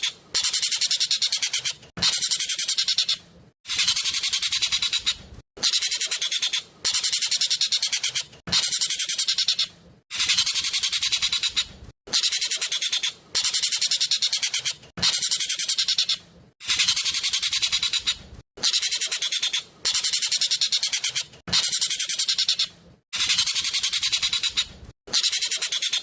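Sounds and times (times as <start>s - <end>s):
starling calling shrilly: 0.0s - 26.0s.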